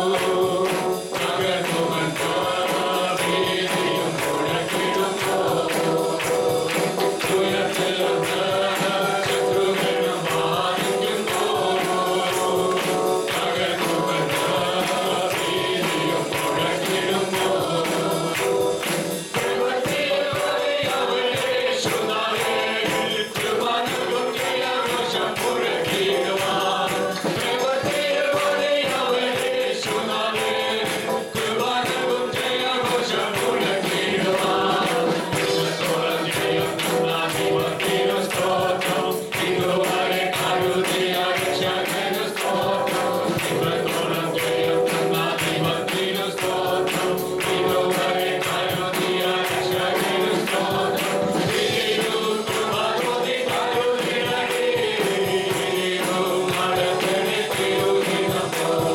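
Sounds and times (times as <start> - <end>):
group singing over a band: 0.0 - 58.9
tambourine beat: 0.0 - 58.9.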